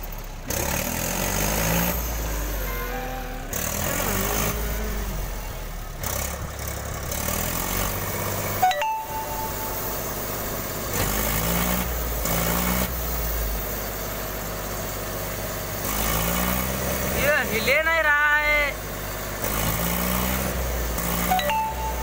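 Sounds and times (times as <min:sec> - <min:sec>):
tractor diesel engine straining: 0:00.0 - 0:22.0.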